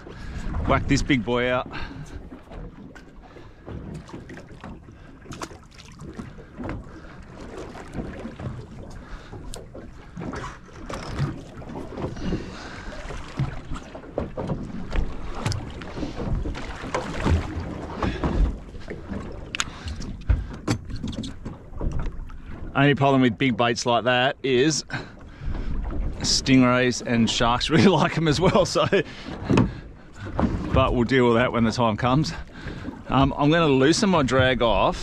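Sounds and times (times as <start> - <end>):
water slapping boat hull: 0.0 - 35.0.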